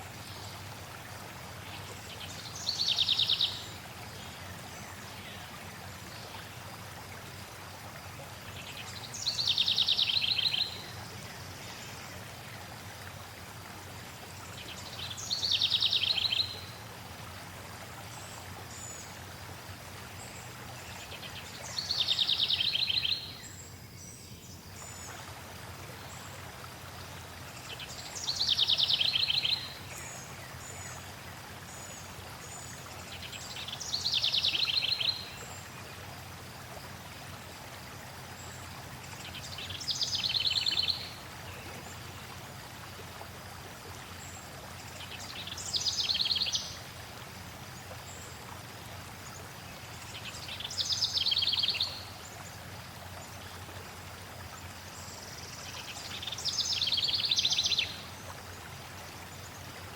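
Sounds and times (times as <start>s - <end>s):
flowing water hiss: 0.0s - 59.9s.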